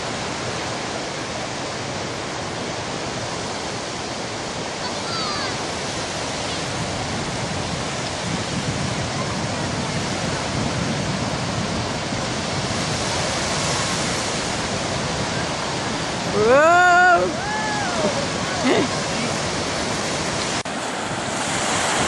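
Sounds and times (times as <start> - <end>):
small ocean waves breaking: 0.0 - 22.0.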